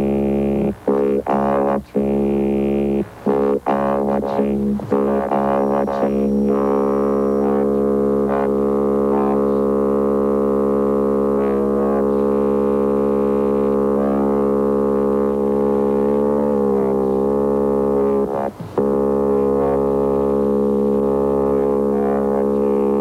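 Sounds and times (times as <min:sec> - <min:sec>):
low buzzy synthesizer drone: 0:00.0 - 0:23.0.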